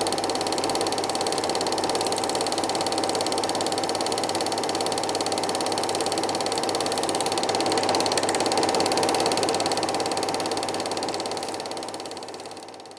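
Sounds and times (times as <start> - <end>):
film projector clatter: 0.0 - 12.9.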